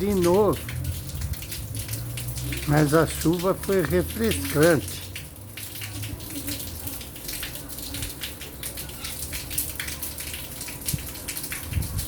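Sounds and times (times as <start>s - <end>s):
rainwater dripping and trickling: 0.0s - 12.0s.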